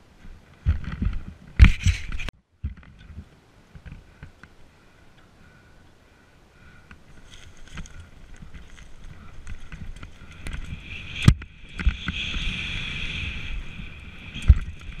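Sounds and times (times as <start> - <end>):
bike rattling: 0.0 - 5.3, 6.7 - 15.0
bike tyres on dirt: 0.0 - 15.0.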